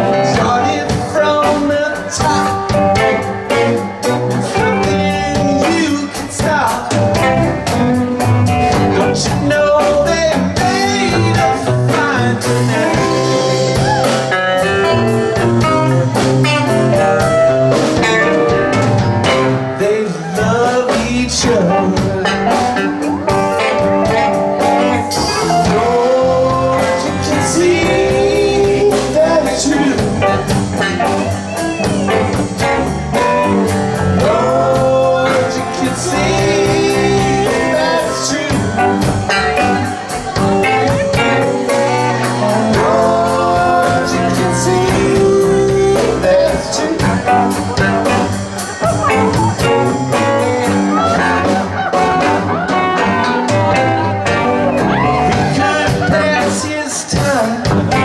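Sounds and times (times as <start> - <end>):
electric guitar lead: 0.0 - 20.5, 21.4 - 58.0
drum kit: 0.0 - 58.0
keyboards: 0.0 - 58.0
person singing: 0.0 - 58.0.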